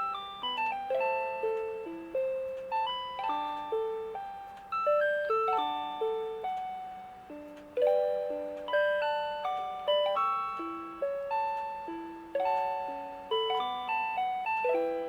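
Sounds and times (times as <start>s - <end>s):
alarm clock electronic chime melody: 0.0s - 15.0s.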